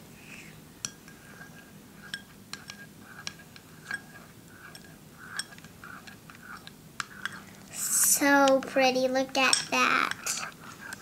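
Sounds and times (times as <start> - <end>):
spoon scraping bowl: 1.0 - 11.0.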